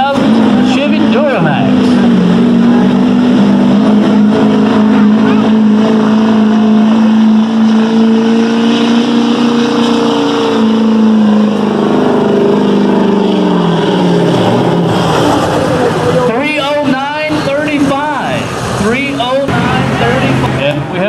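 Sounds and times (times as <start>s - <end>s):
diesel pickup engine at full throttle: 0.0s - 21.0s.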